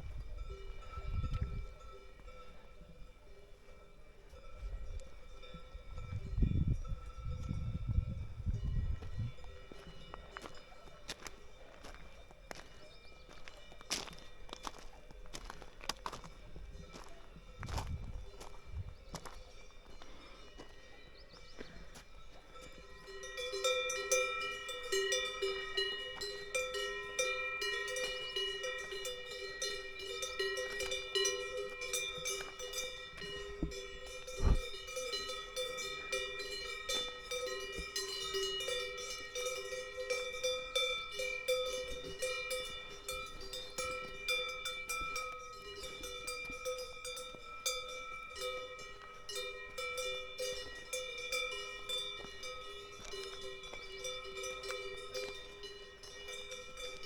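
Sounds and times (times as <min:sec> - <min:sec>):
cow bells clanging: 0:00.0 - 0:57.0.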